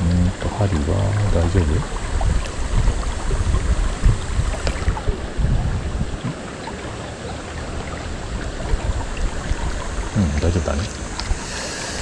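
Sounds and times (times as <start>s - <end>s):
river water rushing: 0.0s - 12.0s
wind rumbling on microphone: 0.0s - 12.0s.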